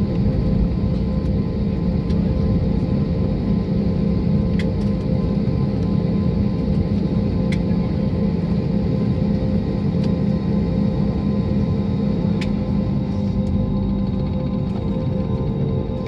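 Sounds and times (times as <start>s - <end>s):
jet cabin engine drone: 0.0s - 16.0s.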